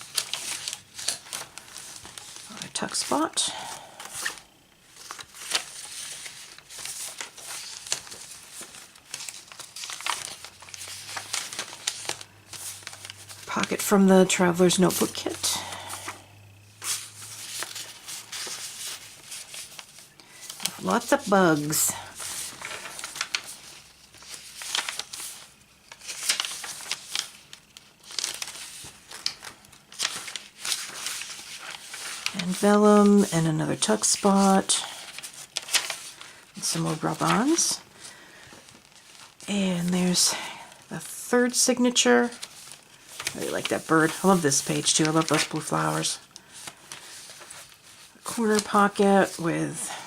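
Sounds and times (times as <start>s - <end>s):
pages flapping and clicking: 0.0s - 13.8s, 15.0s - 37.4s, 42.4s - 48.9s
paper pages rustling: 0.0s - 39.5s, 40.3s - 50.0s.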